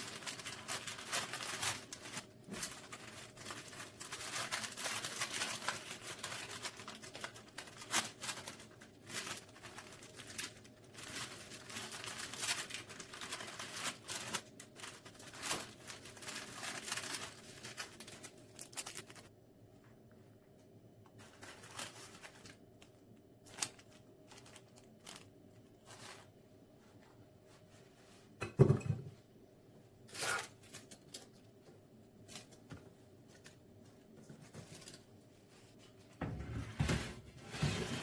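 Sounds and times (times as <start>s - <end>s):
rustling and crinkling: 0.0s - 28.4s, 30.0s - 38.0s.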